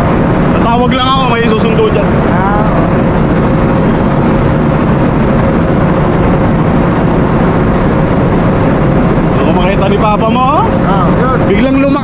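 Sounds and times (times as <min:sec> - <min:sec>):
heavy machinery rumbling: 0:00.0 - 0:12.0.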